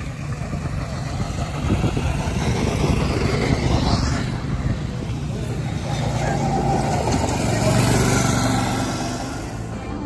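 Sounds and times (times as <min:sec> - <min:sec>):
go-kart engines droning: 0:00.0 - 0:10.0.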